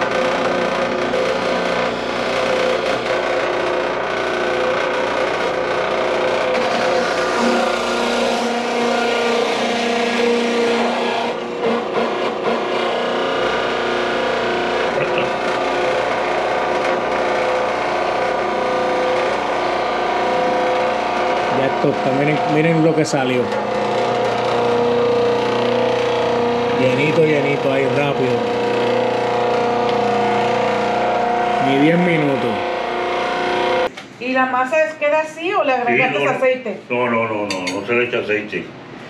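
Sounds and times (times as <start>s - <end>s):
electric meat grinder running: 0.0s - 33.9s.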